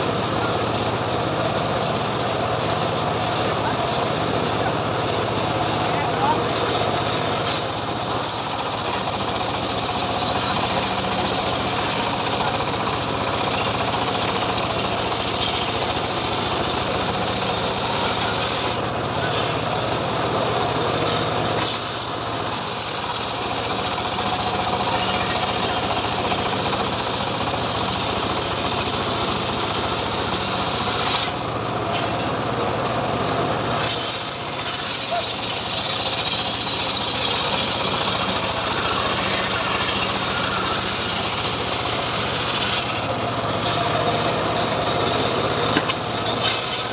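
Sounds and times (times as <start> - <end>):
sawmill engine drone: 0.0 - 46.9
saw hissing through wood: 6.1 - 19.4, 20.7 - 31.8, 32.7 - 46.9.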